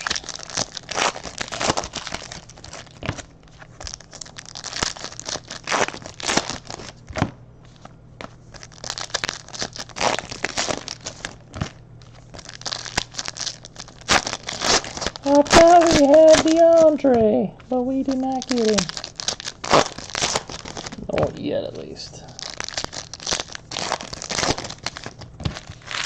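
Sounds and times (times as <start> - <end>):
foil wrappers crinkling and tearing: 0.0 - 26.0.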